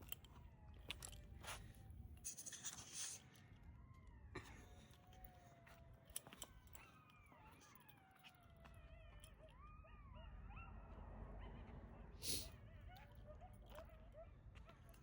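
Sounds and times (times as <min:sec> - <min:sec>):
faint animal whining: 0:00.9 - 0:15.0.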